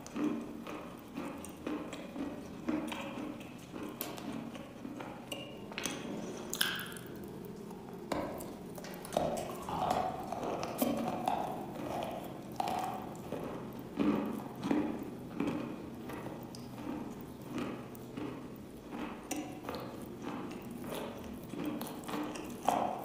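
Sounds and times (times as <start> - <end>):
chewing with small crunches: 0.0 - 23.0
wet mouth clicks: 0.0 - 23.0.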